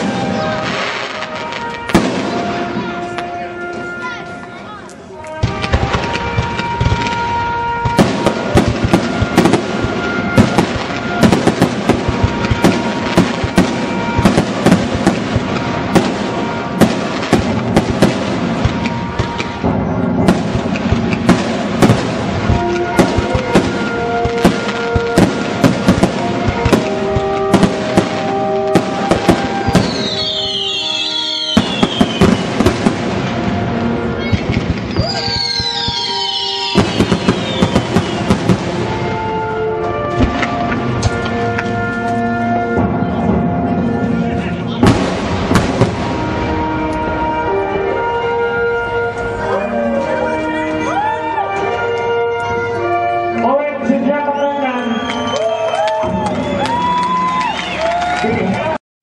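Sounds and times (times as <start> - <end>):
fireworks bursting: 0.0 - 50.9
music playing: 0.0 - 58.8.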